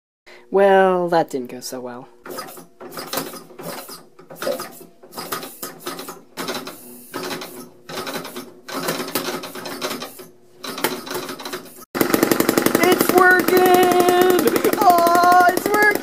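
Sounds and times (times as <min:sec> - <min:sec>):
engine clattering when cranked: 0:02.3 - 0:16.0.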